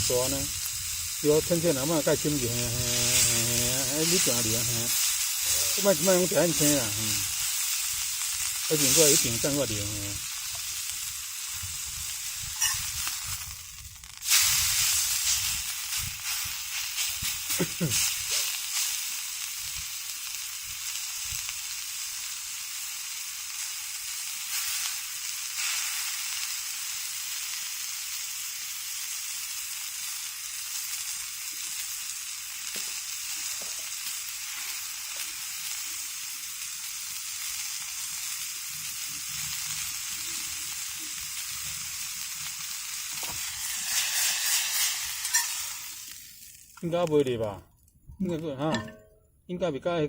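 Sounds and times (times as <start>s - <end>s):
steak sizzling in a pan: 0.0s - 47.1s.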